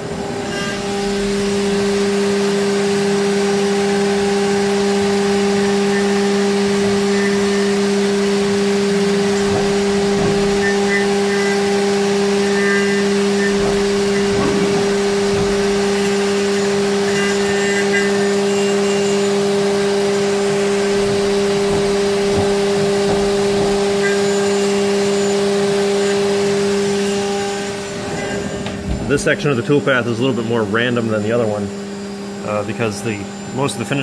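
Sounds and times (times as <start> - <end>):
mill spindle two-tone whine: 0.0 - 34.0.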